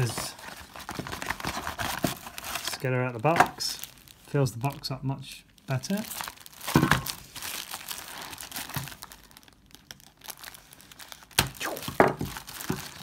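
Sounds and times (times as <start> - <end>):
plastic shrink-wrap crinkling: 0.0 - 13.0
sharp plastic crackles: 0.0 - 13.0.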